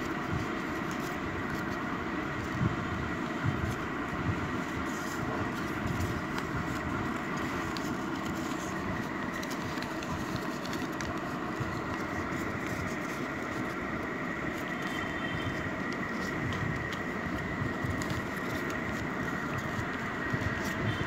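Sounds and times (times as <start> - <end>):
faint high whine: 0.0 - 21.0
paper crinkling and tapping: 0.0 - 21.0
steady background rumble: 0.0 - 21.0.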